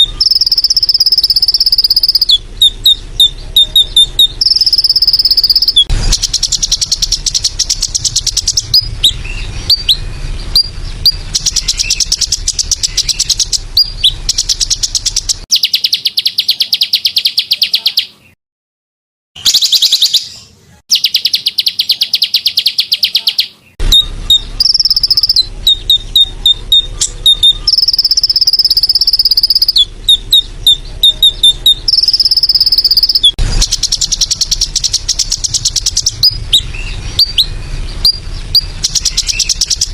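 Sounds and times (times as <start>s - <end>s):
songbird chirps: 0.0s - 18.4s, 19.4s - 39.9s
songbirds buzzing trills: 0.0s - 18.4s, 19.5s - 39.9s.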